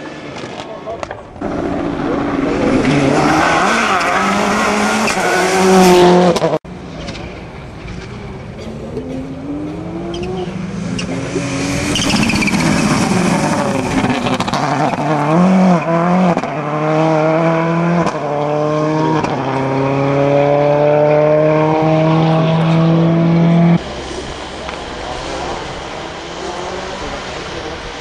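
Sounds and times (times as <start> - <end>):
rally car accelerating and revving: 1.4 - 28.0.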